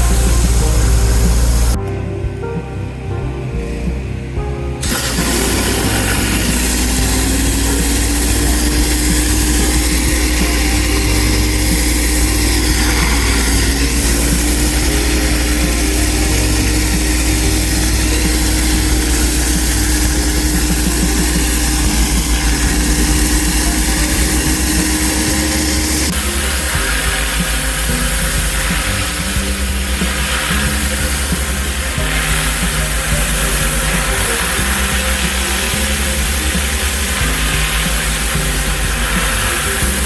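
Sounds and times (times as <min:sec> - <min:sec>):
water spraying hiss: 0:00.0 - 0:01.8, 0:04.8 - 0:40.0
pressure washer engine hum: 0:00.0 - 0:40.0.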